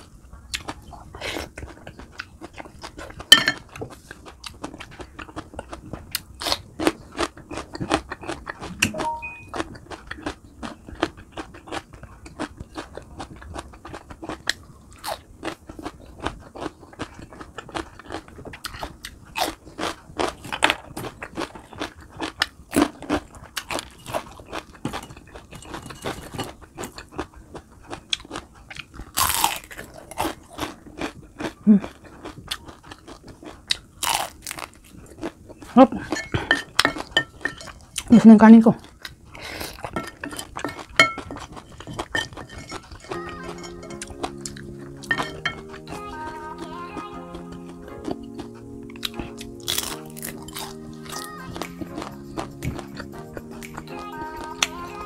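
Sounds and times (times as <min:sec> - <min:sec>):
chewing crispy fried food: 0:00.0 - 0:55.0.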